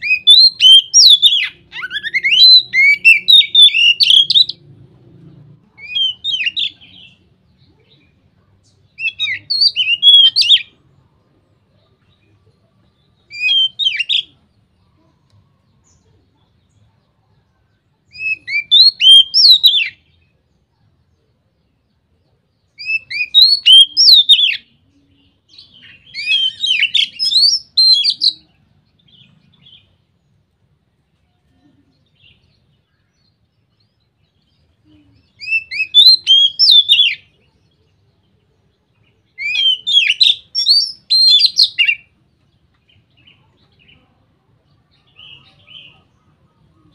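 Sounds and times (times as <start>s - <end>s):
songbird whistled song: 0.0s - 46.9s.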